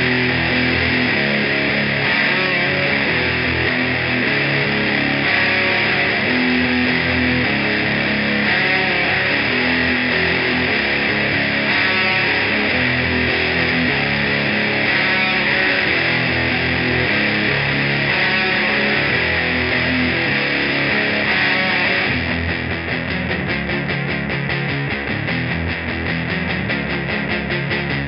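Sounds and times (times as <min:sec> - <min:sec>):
distorted electric guitar riff: 0:00.0 - 0:28.0.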